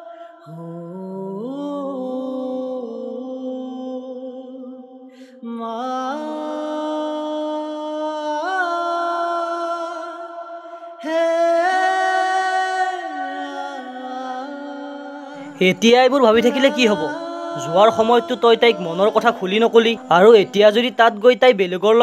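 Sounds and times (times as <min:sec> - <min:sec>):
wordless solo voice singing: 0:00.0 - 0:22.0.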